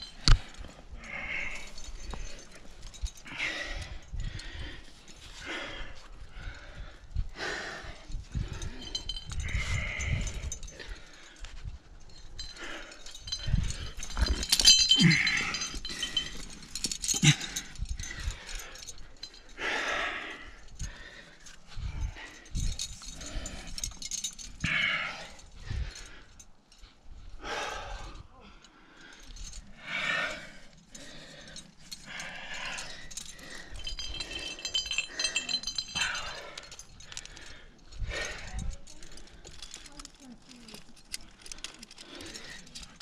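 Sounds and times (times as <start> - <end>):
metal carabiners clinking: 0.0 - 27.2, 28.5 - 43.0
heavy breathing: 0.0 - 43.0.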